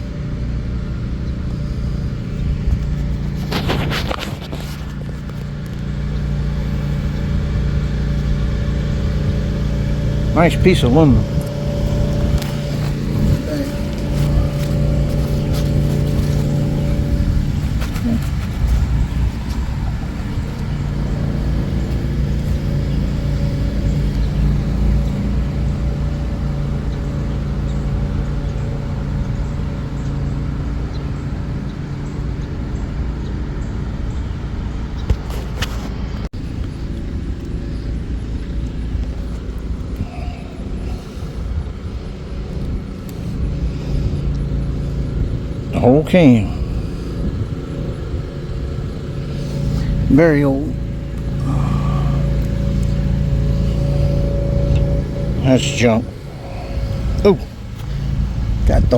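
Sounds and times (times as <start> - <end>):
continuous rumble: 0.0 - 58.9
low engine hum: 0.0 - 58.9.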